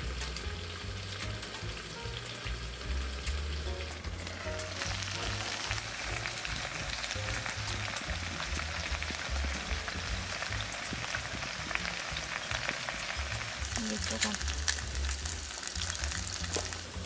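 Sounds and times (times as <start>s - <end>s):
meat sizzling and crackling: 0.0s - 17.0s.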